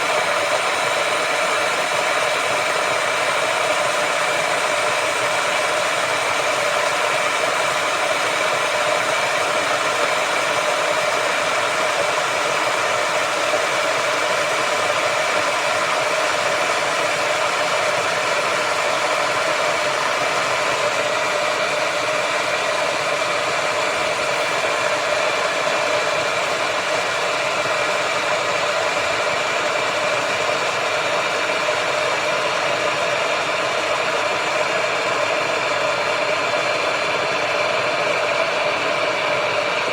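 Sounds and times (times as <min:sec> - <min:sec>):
electric kettle boiling water: 0:00.0 - 0:39.9.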